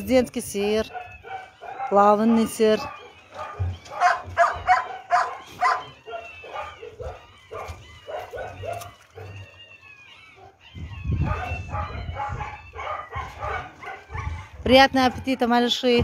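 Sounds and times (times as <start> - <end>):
dogs whining yipping and barking: 0.1 - 16.0.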